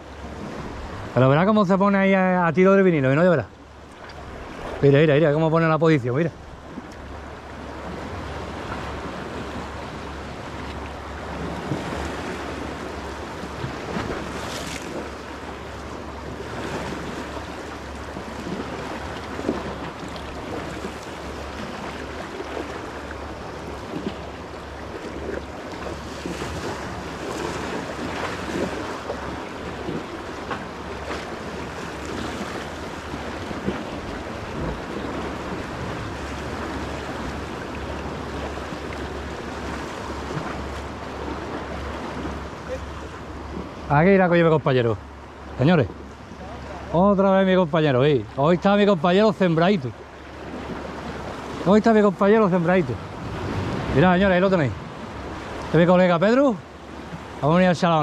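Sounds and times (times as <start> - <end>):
sea waves washing against rocks: 0.0 - 58.0.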